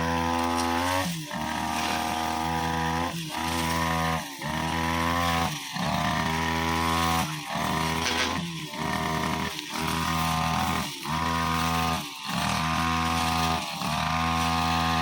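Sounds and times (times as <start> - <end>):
brushcutter engine at high revs: 0.0 - 15.0.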